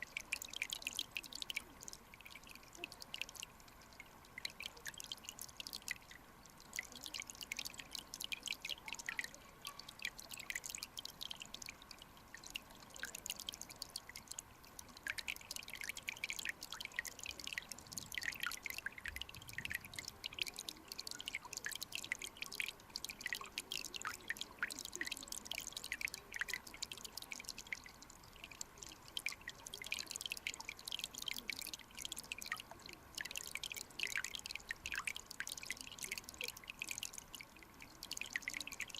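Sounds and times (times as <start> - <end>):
faint hiss: 0.0 - 38.9.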